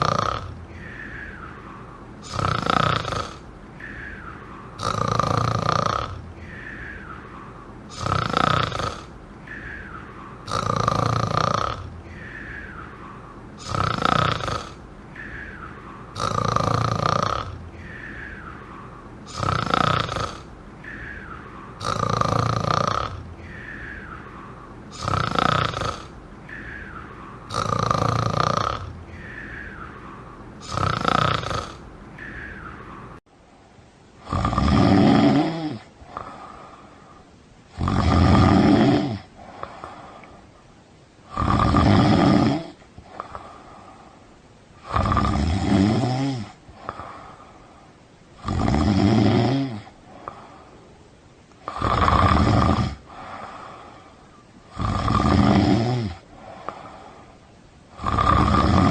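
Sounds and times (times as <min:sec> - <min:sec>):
person snoring: 0:00.0 - 0:33.2, 0:34.2 - 0:40.4, 0:41.2 - 0:44.2, 0:44.8 - 0:50.7, 0:51.6 - 0:58.9
quiet breathing out: 0:00.0 - 0:34.5, 0:35.3 - 0:48.7, 0:49.4 - 0:58.9.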